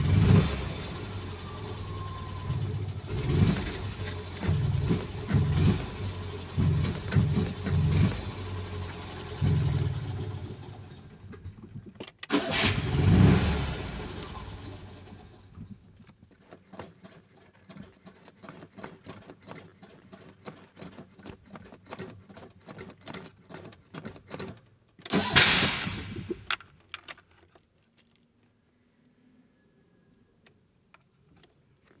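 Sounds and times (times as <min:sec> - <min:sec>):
engine cranking and sputtering: 0:00.0 - 0:27.6.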